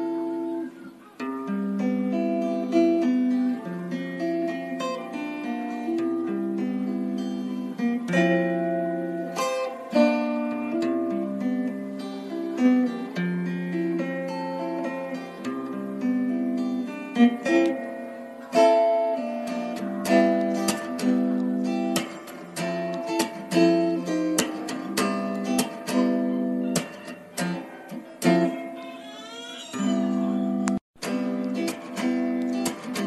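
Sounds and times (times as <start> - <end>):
guitar plucking and strumming: 0.0 - 33.0.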